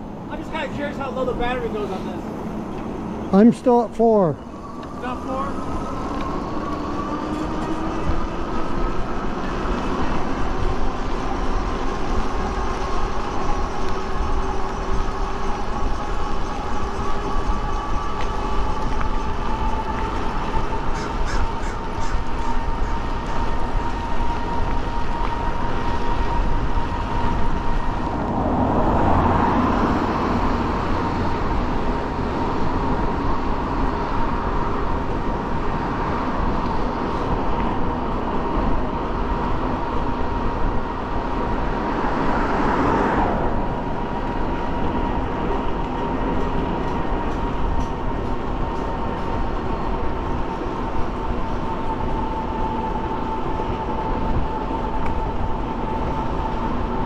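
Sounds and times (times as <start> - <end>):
wind: 0.0 - 57.0
electric motor whine: 4.4 - 57.0.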